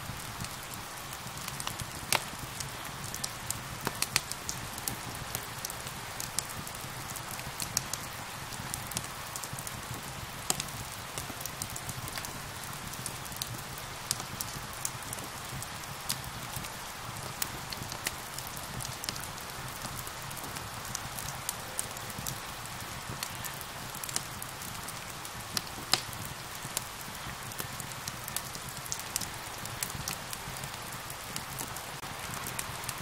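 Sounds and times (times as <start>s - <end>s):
rain hiss: 0.0s - 33.0s
wood fire popping and crackling: 0.0s - 33.0s.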